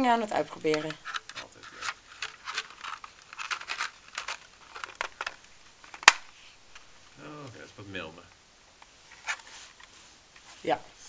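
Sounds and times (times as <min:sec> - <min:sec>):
rustling handling noise: 0:00.0 - 0:11.0.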